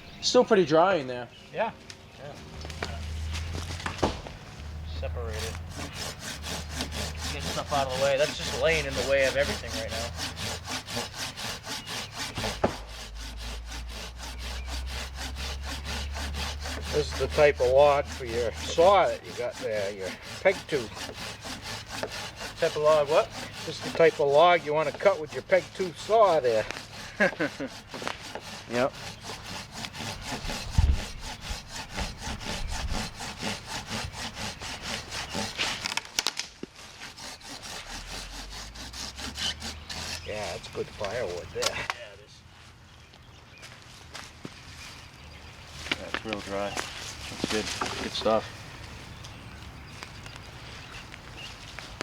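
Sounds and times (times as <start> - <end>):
hand saw cutting wood: 2.6 - 42.1, 45.7 - 49.3, 50.7 - 52.0.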